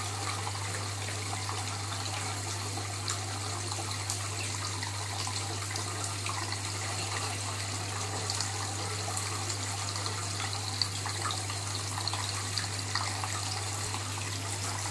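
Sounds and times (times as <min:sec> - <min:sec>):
aquarium water bubbling: 0:00.0 - 0:14.9.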